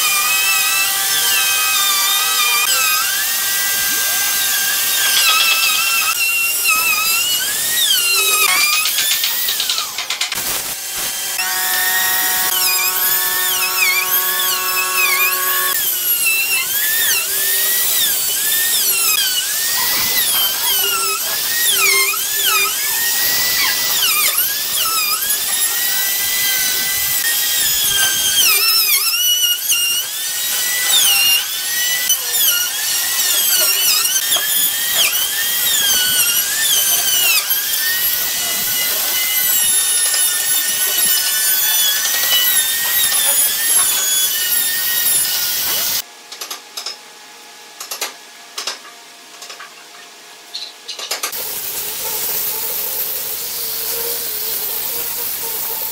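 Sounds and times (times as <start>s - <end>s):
router cutting wood: 0.0s - 46.1s, 51.3s - 55.9s.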